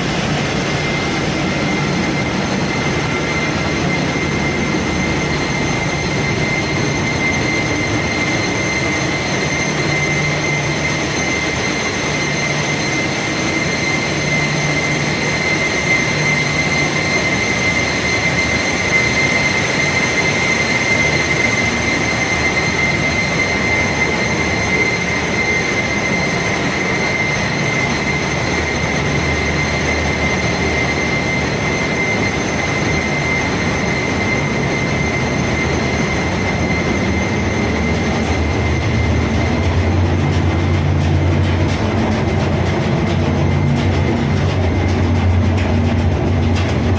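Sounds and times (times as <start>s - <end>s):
low machinery hum: 0.0s - 19.7s, 20.7s - 46.9s
engine room machinery din: 0.0s - 46.9s
high-pitched machinery whine: 0.0s - 46.9s.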